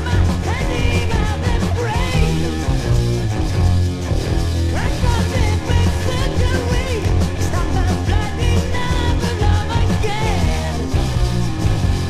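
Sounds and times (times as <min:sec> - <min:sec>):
bass guitar: 0:00.0 - 0:12.0
electric guitar with bent notes: 0:00.0 - 0:12.0
steady drum beat: 0:00.0 - 0:12.0.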